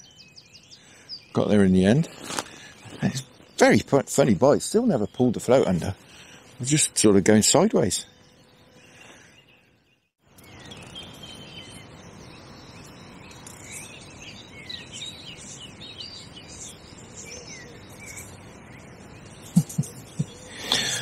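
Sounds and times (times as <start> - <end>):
outdoor background hiss: 0.0 - 21.0
small birds chirping: 0.0 - 21.0.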